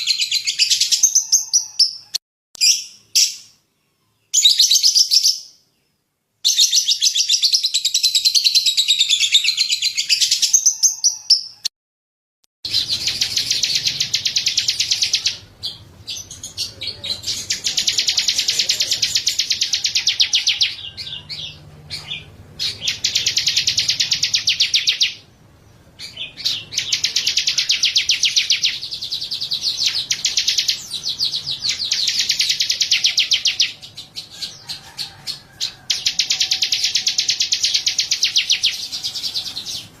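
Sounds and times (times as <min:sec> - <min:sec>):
songbird chirping trills: 0:00.0 - 0:11.7, 0:12.7 - 0:40.0.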